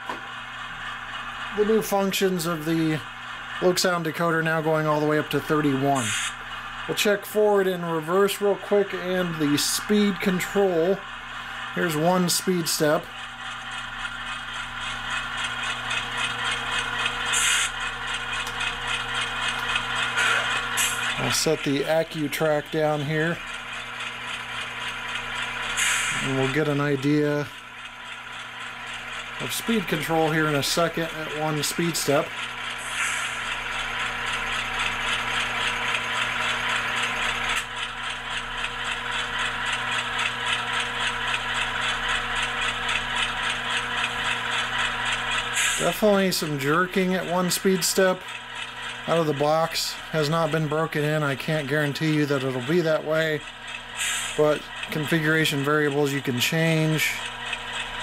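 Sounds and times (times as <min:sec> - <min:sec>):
model diesel engine sound: 0:00.0 - 0:58.0.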